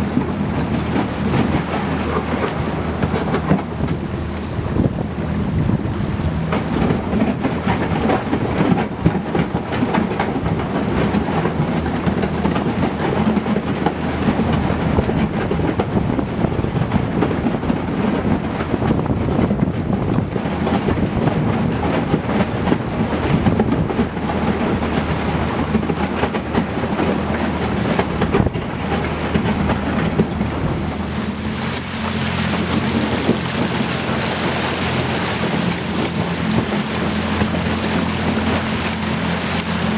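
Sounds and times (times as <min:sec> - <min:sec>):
boat motor running: 0:00.0 - 0:39.9
water rushing past hull: 0:00.0 - 0:39.9.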